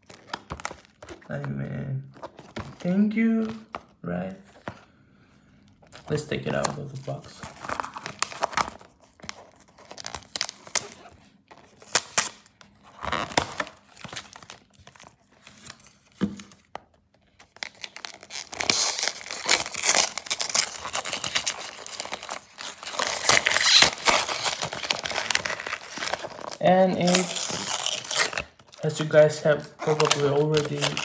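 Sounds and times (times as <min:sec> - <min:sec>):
paper crinkling and tearing: 0:00.0 - 0:01.5, 0:05.8 - 0:31.0.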